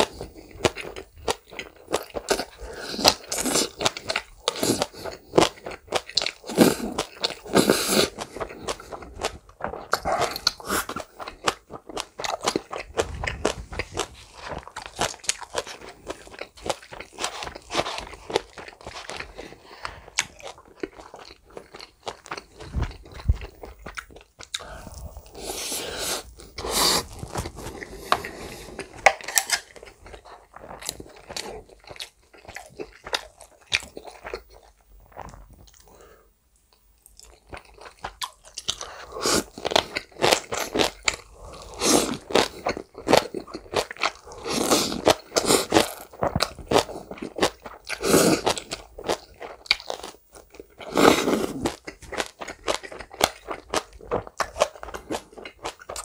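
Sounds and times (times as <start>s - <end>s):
close chewing and crunching: 0.0s - 56.0s.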